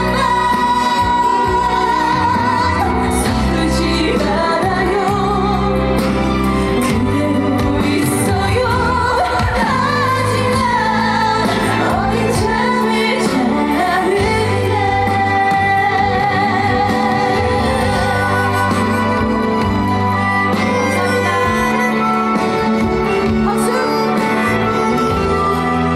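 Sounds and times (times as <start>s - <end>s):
instrumental accompaniment: 0.0s - 25.9s
woman singing: 0.0s - 25.9s.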